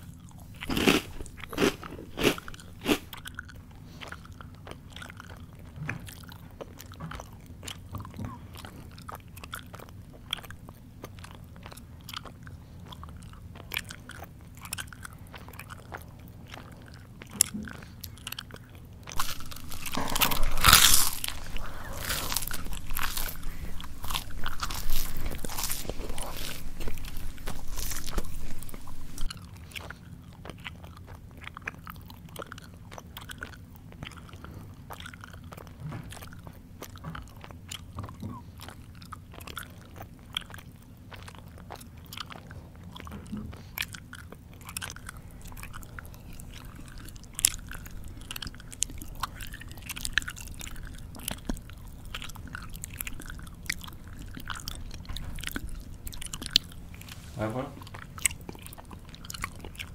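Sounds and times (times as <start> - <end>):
loud biting and crunching: 0.0 - 10.5, 13.0 - 59.9
person chewing crunchy food: 0.0 - 59.9.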